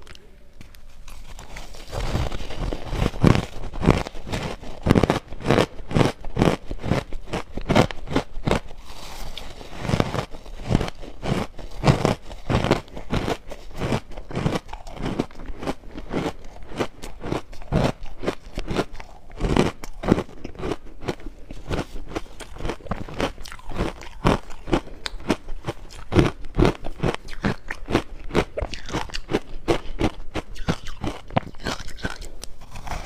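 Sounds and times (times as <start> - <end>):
chewing crushed ice crunches: 1.0 - 33.0.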